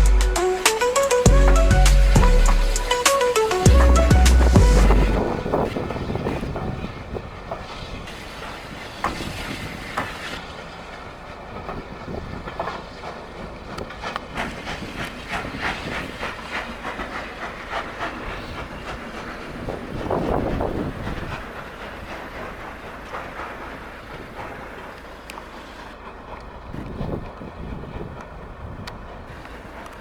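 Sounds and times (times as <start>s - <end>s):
train rumbling on rails: 0.0s - 30.0s
wheels clacking over rail joints: 0.0s - 30.0s.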